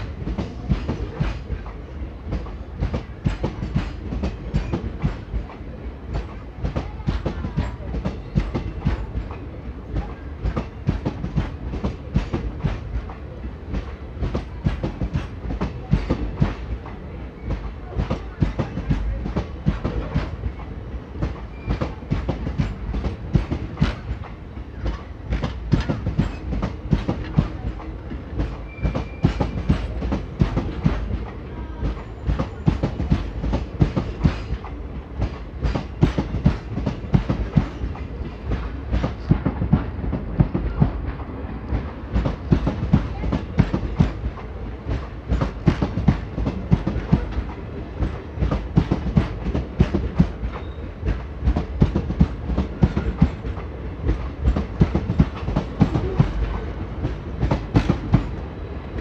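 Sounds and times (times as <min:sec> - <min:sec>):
low rumble of passing train: 0:00.0 - 0:59.0
train wheels clattering over rail joints: 0:00.0 - 0:59.0.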